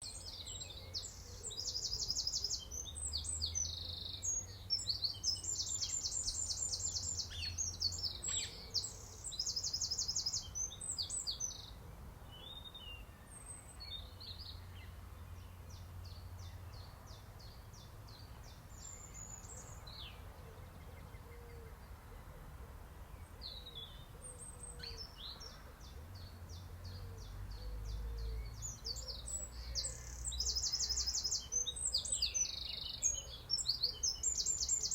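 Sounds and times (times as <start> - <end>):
songbirds trilling and chirping: 0.0 - 34.9.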